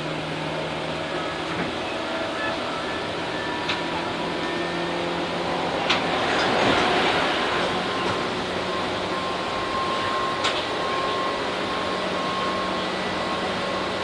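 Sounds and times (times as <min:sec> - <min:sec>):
train wheels rumbling: 0:01.0 - 0:14.0.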